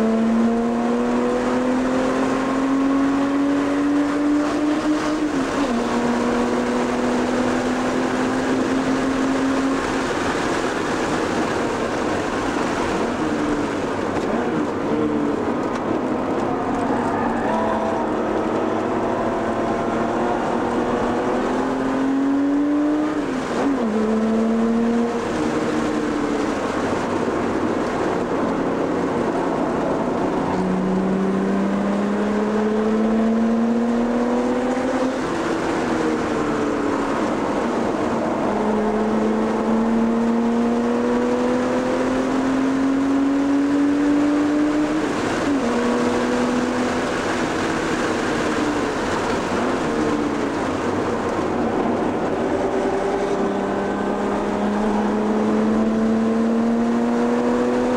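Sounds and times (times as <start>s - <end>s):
car engine accelerating: 0.0s - 57.9s
wind and road noise: 0.0s - 57.9s.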